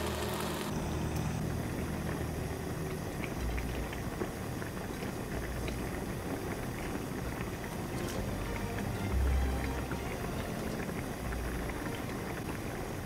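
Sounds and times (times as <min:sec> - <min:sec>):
stew sauce bubbling with pops: 0:01.4 - 0:13.0.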